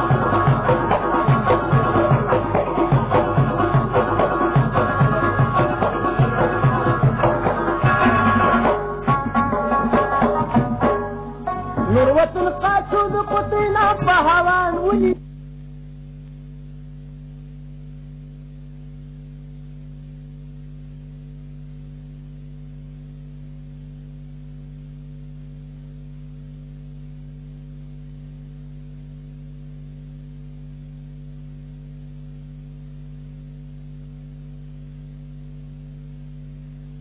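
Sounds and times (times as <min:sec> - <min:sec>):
mains hum with buzz: 0:00.0 - 0:37.0
tape hiss: 0:00.0 - 0:37.0.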